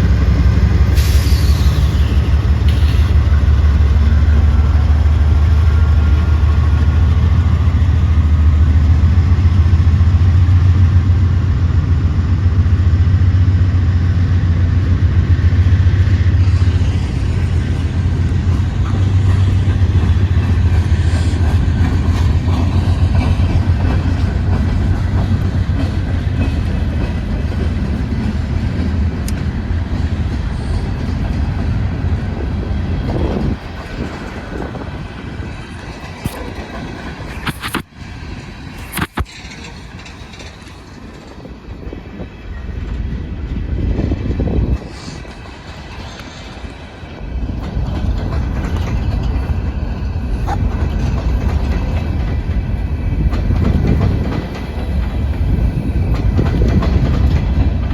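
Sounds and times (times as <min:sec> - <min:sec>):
train rumbling past: 0:00.0 - 0:57.9.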